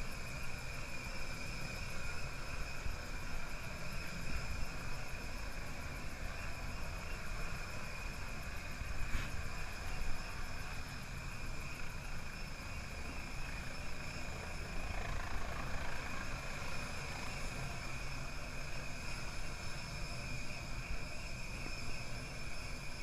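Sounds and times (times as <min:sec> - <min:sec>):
helicopter rotor and engine drone: 0:00.0 - 0:23.0.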